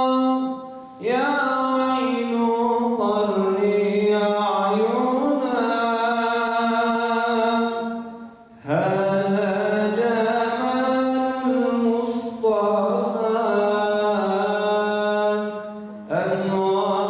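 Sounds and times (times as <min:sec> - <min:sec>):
man chanting unaccompanied: 0:00.0 - 0:17.0.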